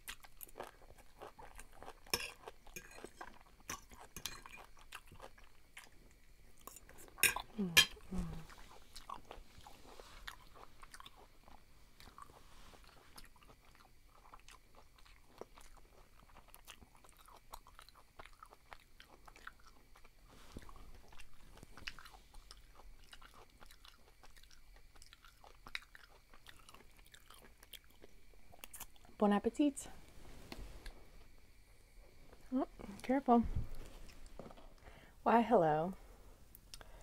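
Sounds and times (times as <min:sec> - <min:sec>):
mouth chewing soft food: 0:00.0 - 0:07.6, 0:08.2 - 0:29.2, 0:33.7 - 0:34.9.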